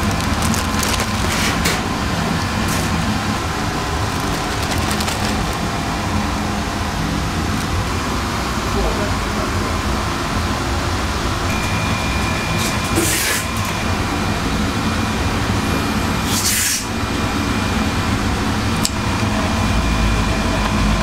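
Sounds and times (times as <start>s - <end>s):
kitchen machinery hum: 0.0s - 21.0s
faint high whine: 1.9s - 21.0s.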